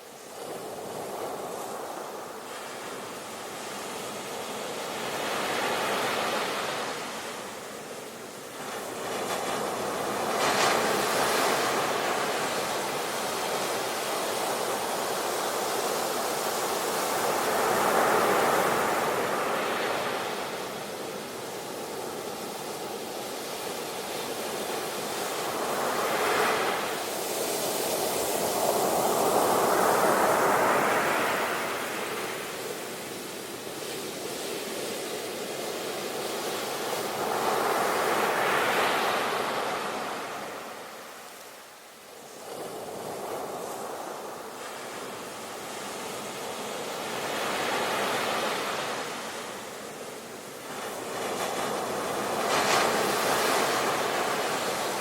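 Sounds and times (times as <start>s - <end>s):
sea waves breaking on shore: 0.2s - 55.0s.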